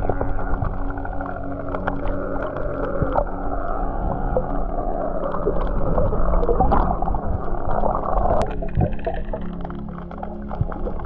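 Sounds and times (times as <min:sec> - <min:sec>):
crackling clicks: 0:00.0 - 0:11.0
low steady hum: 0:00.0 - 0:11.0
muffled underwater rushing: 0:00.0 - 0:11.0.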